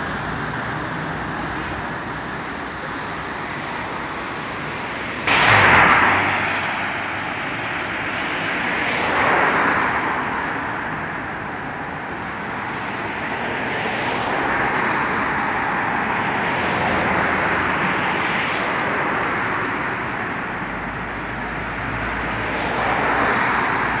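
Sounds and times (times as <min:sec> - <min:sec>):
cars passing: 0:00.0 - 0:24.0.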